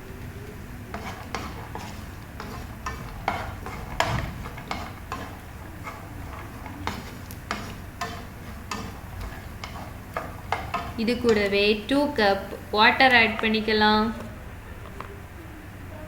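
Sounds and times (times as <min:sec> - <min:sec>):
faint sizzle of hot fat: 0:00.0 - 0:16.0
metal spoon scraping a pan: 0:00.8 - 0:15.1.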